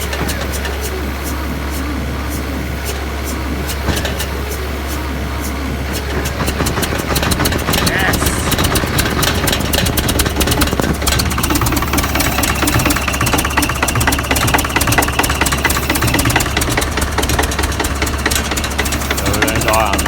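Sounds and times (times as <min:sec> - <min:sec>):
diesel engine knocking clatter: 0:00.0 - 0:20.0.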